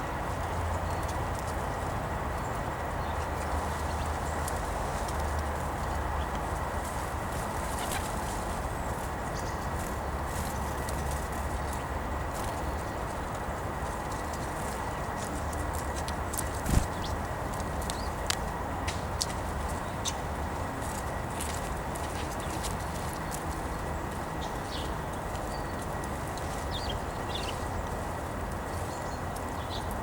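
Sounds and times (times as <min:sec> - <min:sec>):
steady hiss and low hum: 0:00.0 - 0:30.0
birds: 0:00.9 - 0:13.3, 0:14.1 - 0:18.3, 0:22.2 - 0:30.0.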